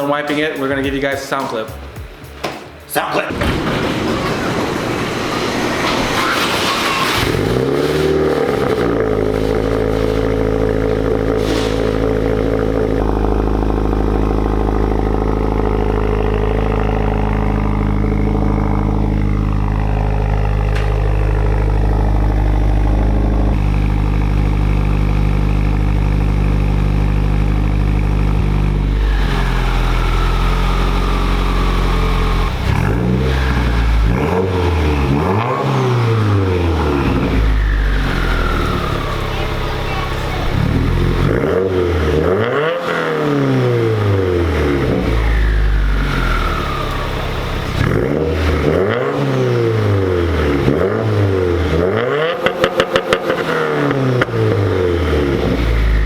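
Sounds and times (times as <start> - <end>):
car engine idling and revving: 1.8 - 56.0.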